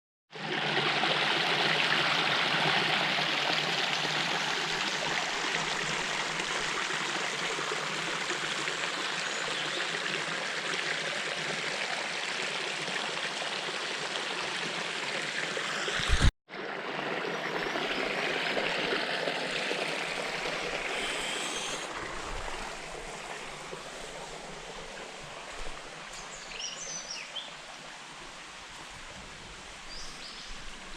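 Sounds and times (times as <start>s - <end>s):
rushing water: 0.4s - 30.9s.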